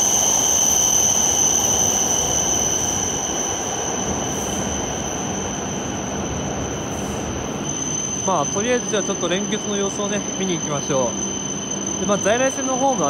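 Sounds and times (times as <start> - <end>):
high-pitched brake squeal: 0.0 - 13.0
train rumble: 0.0 - 13.0.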